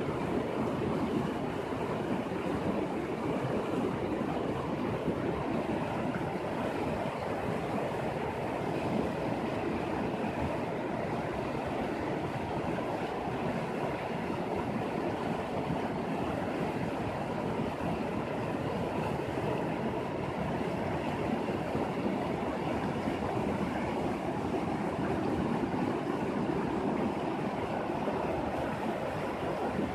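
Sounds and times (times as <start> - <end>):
river rushing over stones: 0.0 - 29.9.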